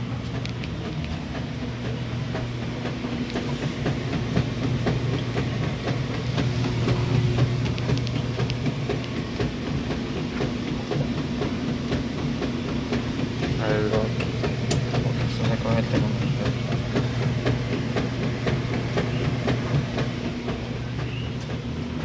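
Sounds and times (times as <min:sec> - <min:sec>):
fan motor humming: 0:00.0 - 0:22.0.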